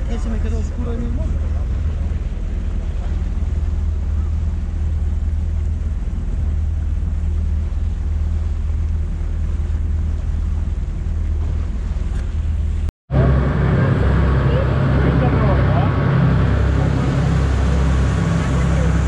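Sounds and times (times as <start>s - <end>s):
boat engine droning: 0.0s - 19.0s
water washing: 0.0s - 19.0s
wind buffeting microphone: 0.0s - 19.0s.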